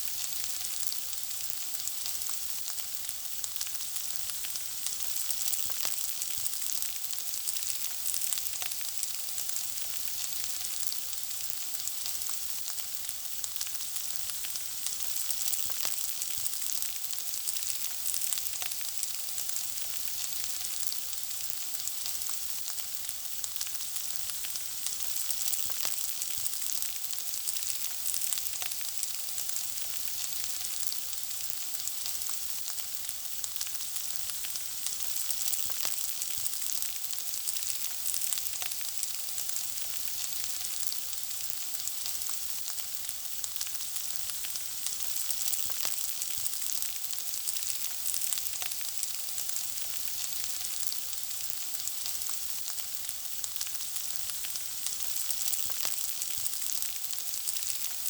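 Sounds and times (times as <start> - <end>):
food frying sizzle: 0.0 - 58.0.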